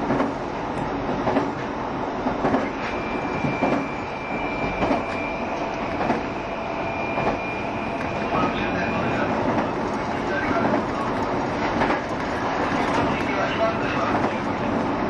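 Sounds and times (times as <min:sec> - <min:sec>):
rail-joint clacks: 0:00.0 - 0:06.3, 0:07.1 - 0:15.0
electric train rumbling: 0:00.0 - 0:15.0.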